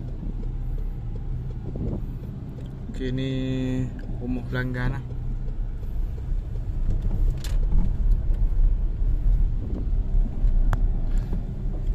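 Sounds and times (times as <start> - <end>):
car cabin rumble: 0.0 - 11.9.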